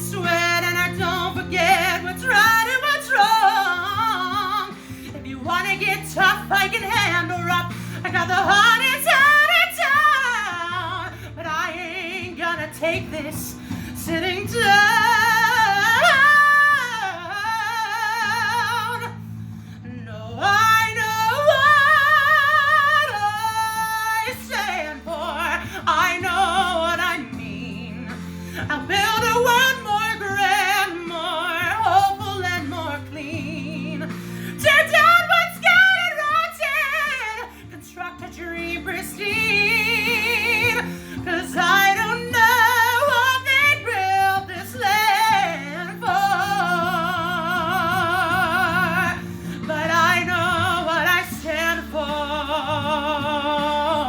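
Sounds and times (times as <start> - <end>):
woman singing with vibrato: 0.0 - 54.0.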